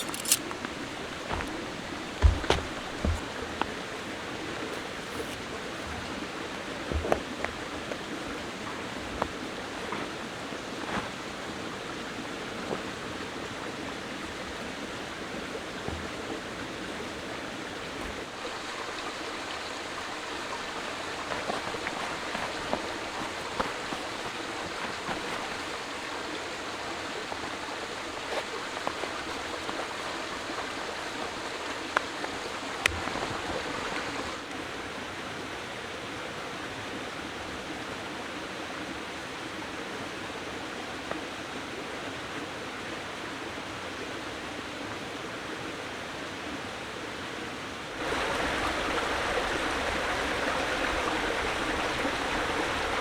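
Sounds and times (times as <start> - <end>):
water rushing: 0.0 - 42.9, 47.9 - 53.0.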